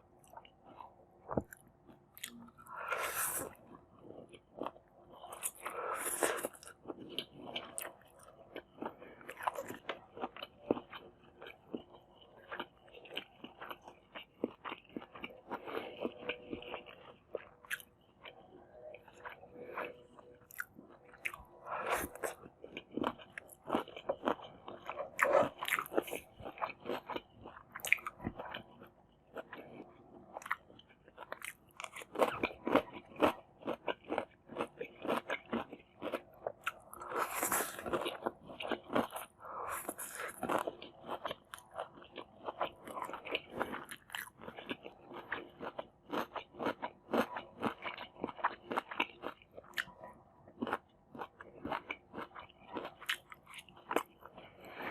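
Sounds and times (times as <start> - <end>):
crunchy chewing of noodles: 0.0 - 54.9.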